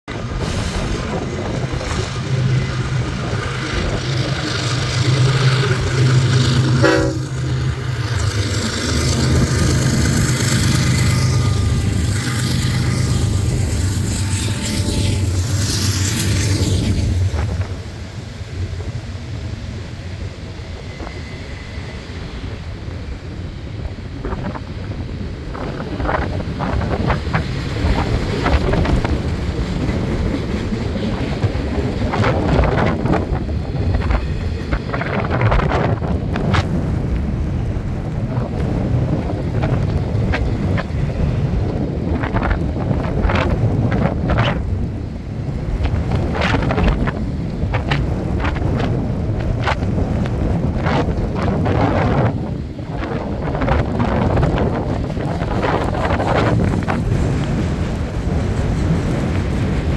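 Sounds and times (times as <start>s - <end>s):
train wheels rumbling on rail: 0.0s - 59.9s
wind buffeting microphone: 0.1s - 59.9s.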